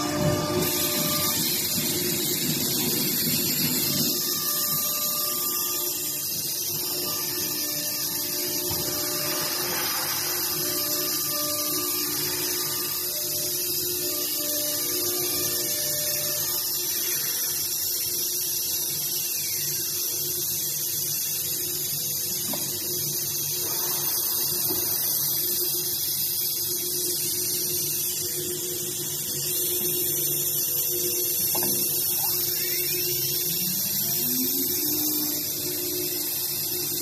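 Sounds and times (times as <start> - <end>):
machine humming with hiss: 0.0 - 37.0
rising machine whine: 0.0 - 37.0.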